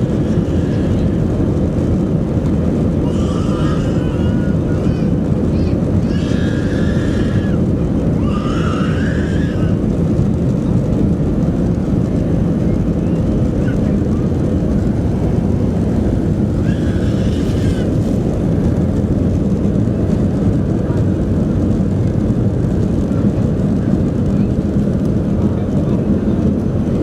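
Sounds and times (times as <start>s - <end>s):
jet engines and airflow rumbling: 0.0s - 27.0s.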